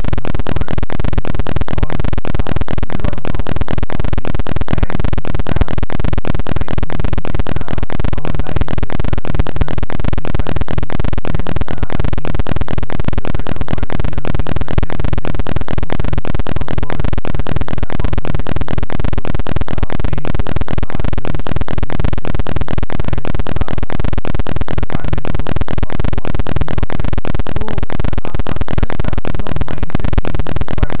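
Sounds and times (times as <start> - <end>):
rapid clicks making a harsh buzz: 0.0 - 31.0.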